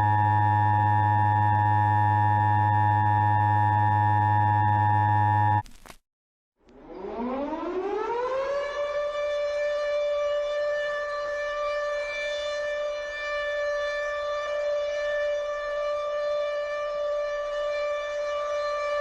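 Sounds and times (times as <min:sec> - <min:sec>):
civil defense siren winding up: 0:00.0 - 0:05.6, 0:06.7 - 0:19.0.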